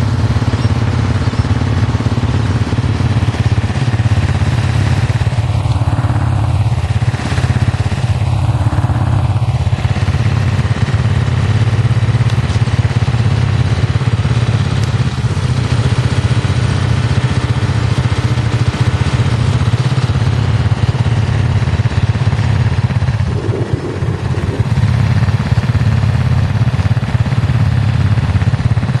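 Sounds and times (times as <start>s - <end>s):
quad bike engine idling: 0.0s - 29.0s.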